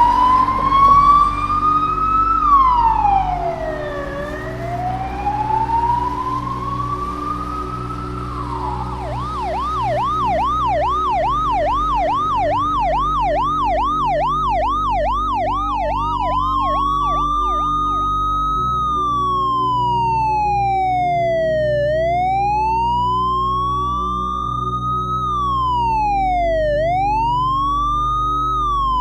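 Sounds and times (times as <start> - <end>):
electronic police siren: 0.0 - 29.0.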